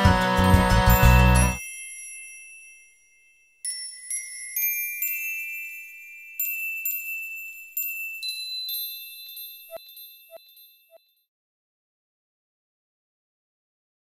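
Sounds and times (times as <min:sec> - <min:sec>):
high chime-like notes: 0:00.0 - 0:11.3.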